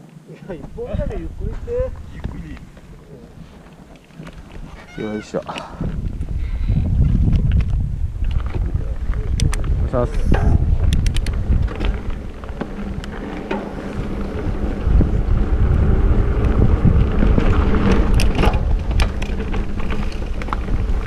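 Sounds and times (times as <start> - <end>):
bike tyre noise: 0.0 - 21.0
bike rattling and clicking: 0.5 - 21.0
wind buffeting microphone: 0.5 - 21.0.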